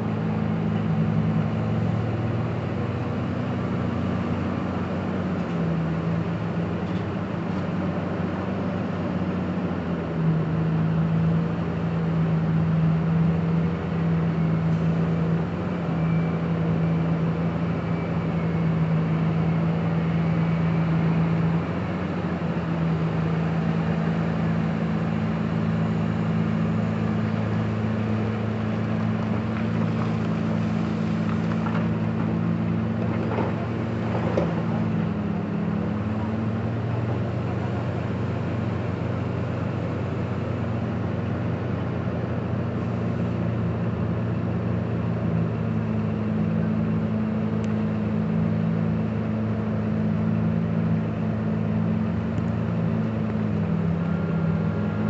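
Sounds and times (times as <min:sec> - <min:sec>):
heavy diesel excavator engine droning: 0:00.0 - 0:55.0.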